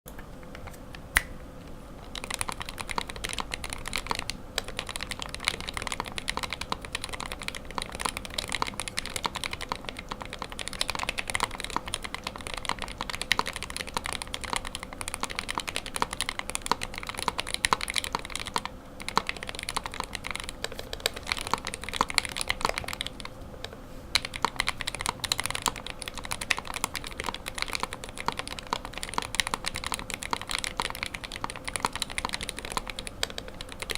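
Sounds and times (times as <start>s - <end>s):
mechanical keyboard typing: 2.0s - 23.4s, 24.1s - 33.9s.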